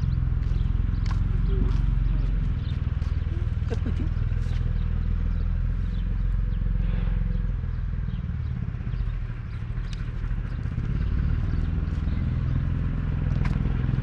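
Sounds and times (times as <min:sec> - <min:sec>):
tractor engine throbbing: 0:00.0 - 0:14.0.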